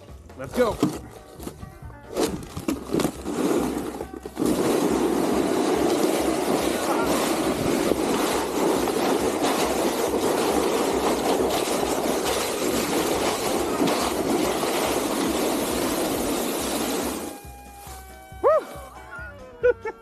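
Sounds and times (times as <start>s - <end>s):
sled scraping over ice: 0.5s - 19.0s.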